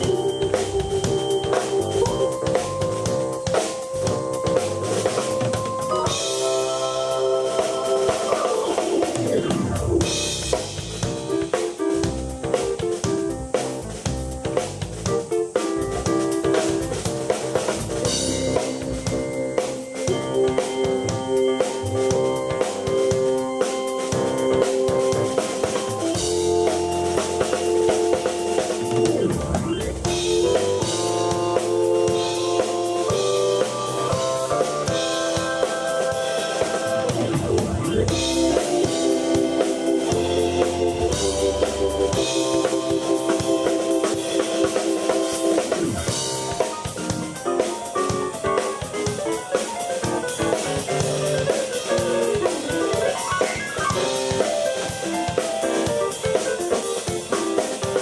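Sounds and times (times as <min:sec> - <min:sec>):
drum beat: 0:00.0 - 0:58.0
keyboard chords: 0:00.0 - 0:58.0.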